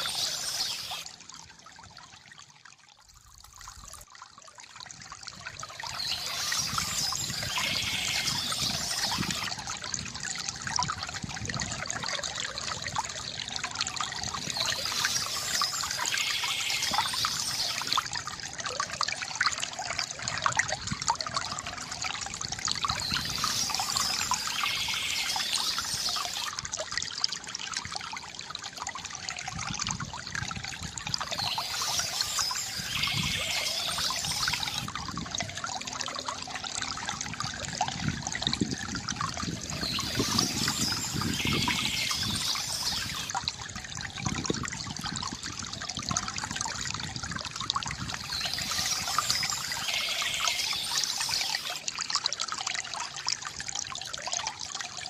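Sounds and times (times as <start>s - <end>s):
bamboo fountain water trickling: 0.0s - 55.0s.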